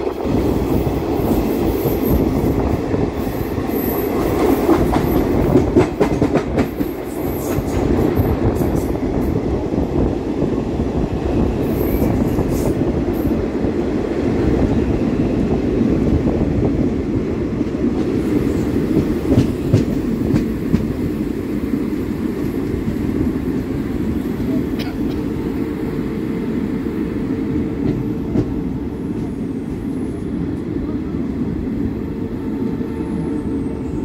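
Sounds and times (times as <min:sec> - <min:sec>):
train rumbling along track: 0:00.0 - 0:34.0.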